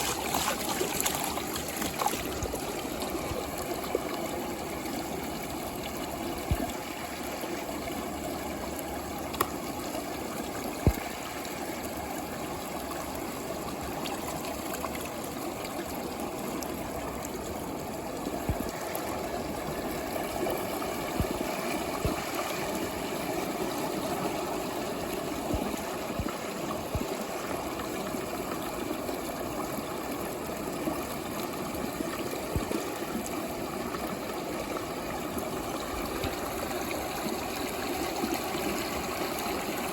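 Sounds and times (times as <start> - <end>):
water gurgling in plastic tube: 0.0 - 39.9.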